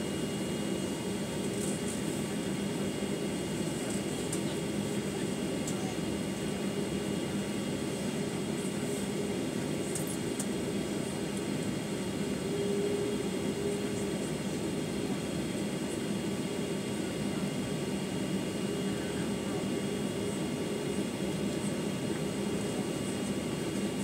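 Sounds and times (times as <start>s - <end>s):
aircraft cabin low rumble: 0.0s - 24.0s.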